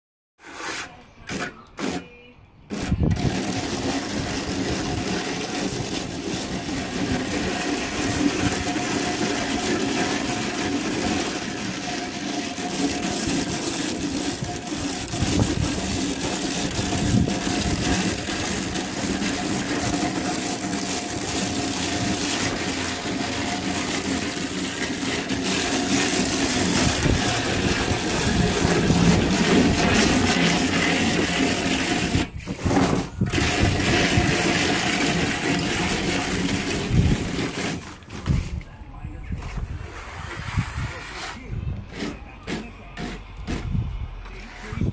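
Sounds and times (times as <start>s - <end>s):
plastic float scraping plaster: 0.4s - 44.9s.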